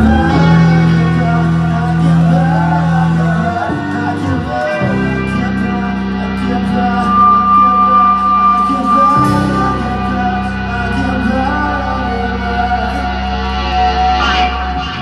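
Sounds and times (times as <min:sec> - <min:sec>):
live rock band music: 0:00.0 - 0:15.0.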